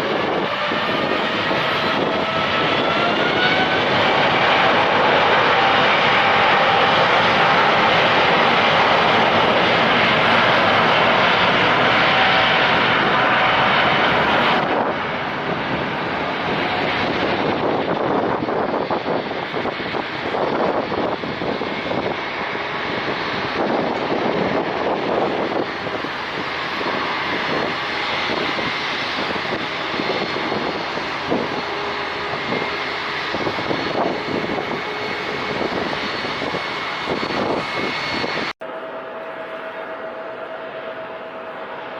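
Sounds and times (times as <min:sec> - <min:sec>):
wind buffeting microphone: 0:00.0 - 0:38.6
jet engines roaring: 0:00.0 - 0:41.9.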